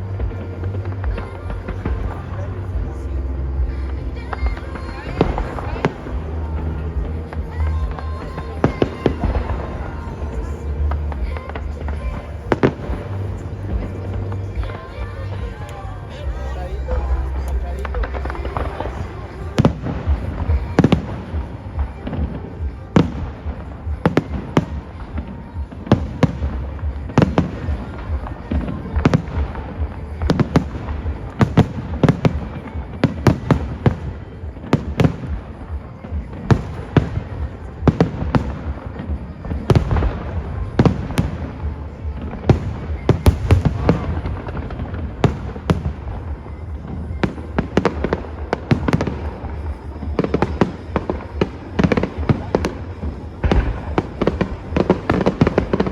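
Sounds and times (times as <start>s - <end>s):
faint show music: 0.0s - 55.9s
fireworks bursting: 0.0s - 55.9s.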